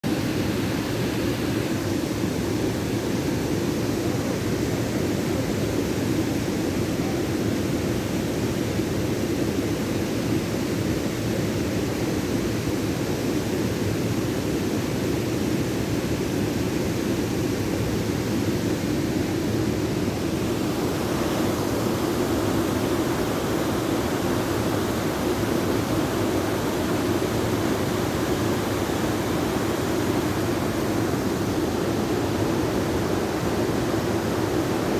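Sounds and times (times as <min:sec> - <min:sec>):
waterfall roar: 0:00.1 - 0:34.9.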